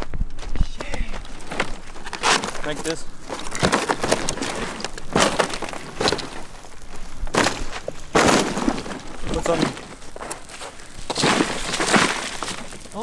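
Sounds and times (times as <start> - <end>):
cracking and rustling: 0.0 - 13.0.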